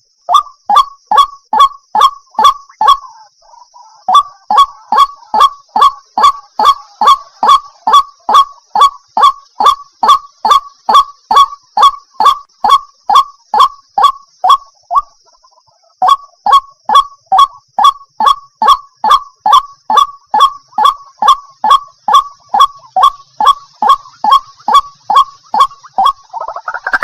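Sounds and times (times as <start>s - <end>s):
waterhen harsh calls: 0.3s - 27.0s.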